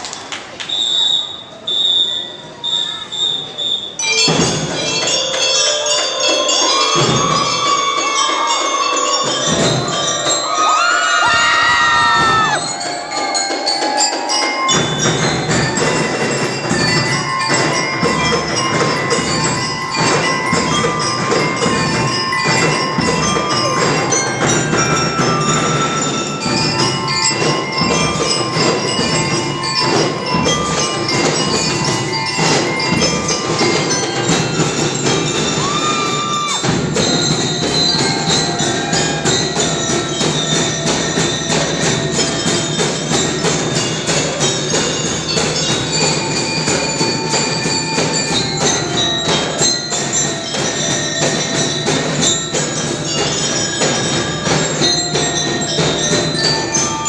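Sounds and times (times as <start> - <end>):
bell lyres playing melody: 2.9 - 57.0
marching drums beat: 9.3 - 57.0.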